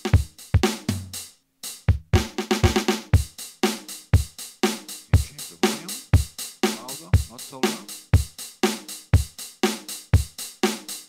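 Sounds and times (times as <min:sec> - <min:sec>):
looped drum-kit pattern: 0:00.0 - 0:11.0.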